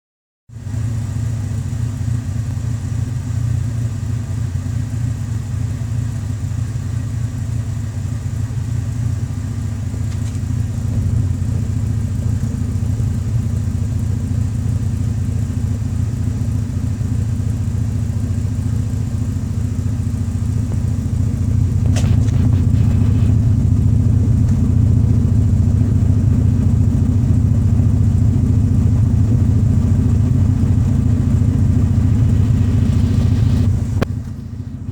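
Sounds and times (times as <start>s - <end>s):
car engine idling: 0.5s - 34.9s.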